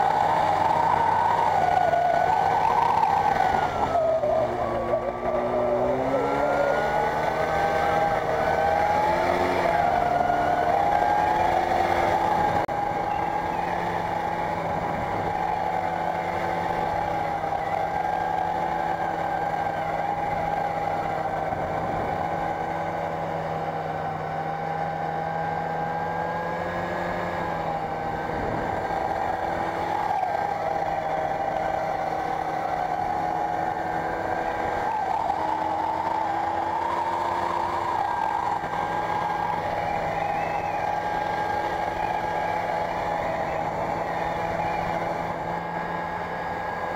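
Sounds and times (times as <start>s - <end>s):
snowmobile engine running: 0.0s - 46.9s.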